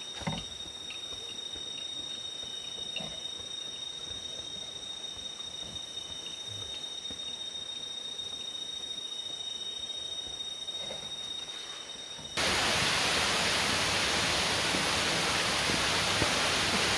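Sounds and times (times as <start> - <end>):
insects droning: 0.0 - 16.9.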